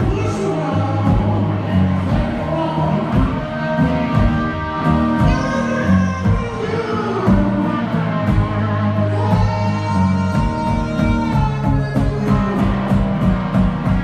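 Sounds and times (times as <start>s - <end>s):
second guitar: 0.0s - 14.0s
slide guitar: 0.0s - 14.0s
steady bass drum beat: 0.0s - 14.0s.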